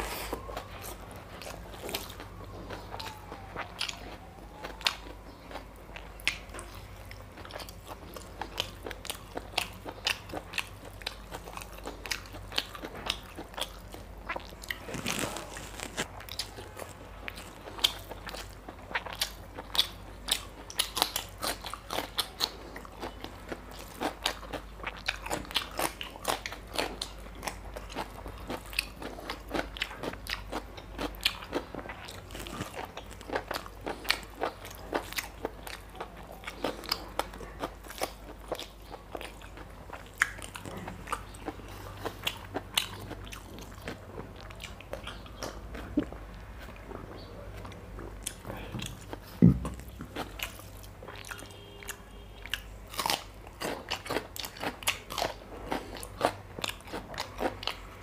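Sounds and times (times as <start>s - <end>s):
person chewing and smacking: 0.0s - 58.0s.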